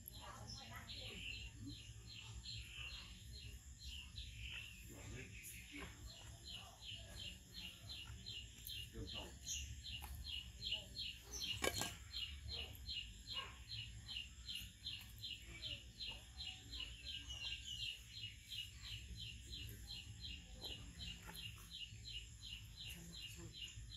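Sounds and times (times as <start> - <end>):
bird chirping: 0.0 - 23.9.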